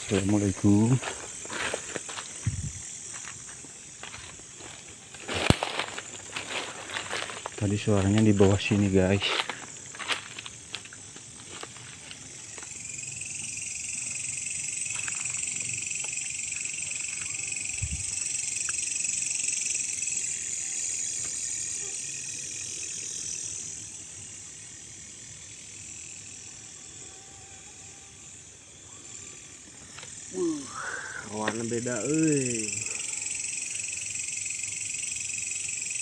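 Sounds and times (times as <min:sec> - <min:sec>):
night insects chorus: 0:00.0 - 0:36.0.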